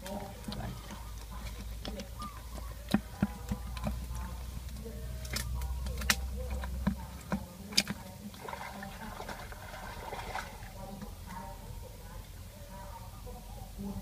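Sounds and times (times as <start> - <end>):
fish tapping against bucket: 0.0 - 11.4.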